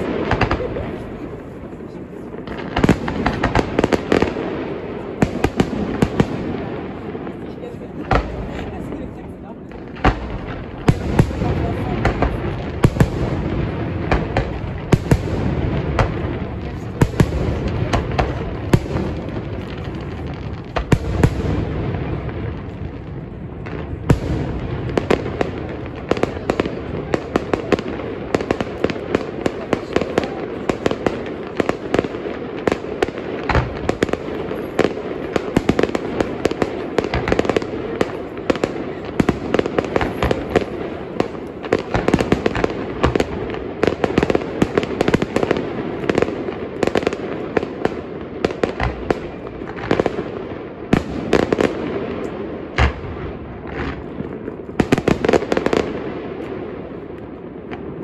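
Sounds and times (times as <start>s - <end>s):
deep firework booms: 0.0s - 58.0s
fireworks crackling: 0.0s - 58.0s.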